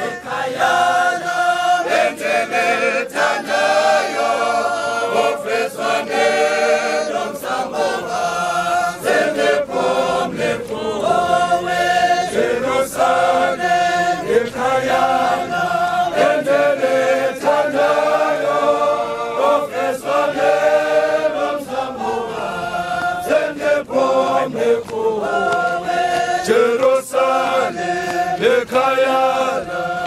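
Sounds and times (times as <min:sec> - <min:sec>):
men singing a hymn in harmony: 0:00.0 - 0:30.0.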